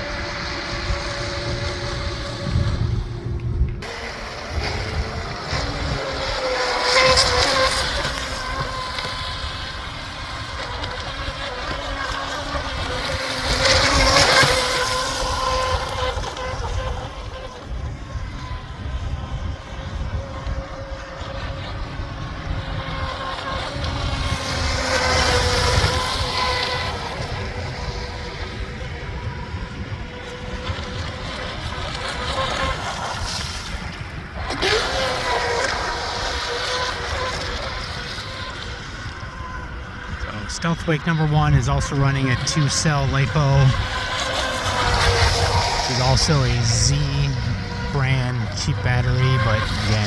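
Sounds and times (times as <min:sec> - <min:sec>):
boat hull hissing through water: 0:00.0 - 0:50.0
electric motor whine: 0:00.0 - 0:50.0
wind rumbling on microphone: 0:00.0 - 0:50.0.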